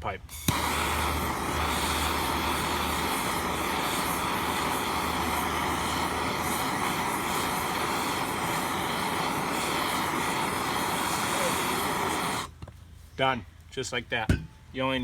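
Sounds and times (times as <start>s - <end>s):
torch flame hissing: 0.3s - 12.5s.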